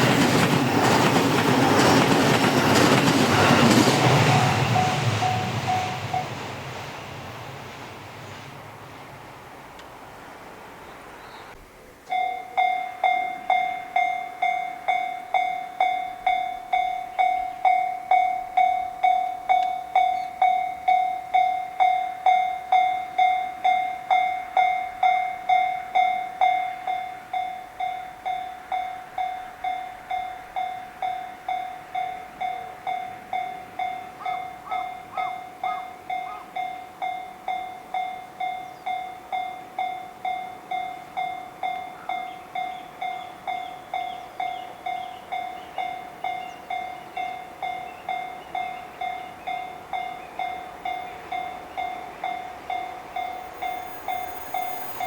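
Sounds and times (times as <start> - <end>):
railroad crossing alarm ringing: 0.0 - 8.1, 12.1 - 55.0.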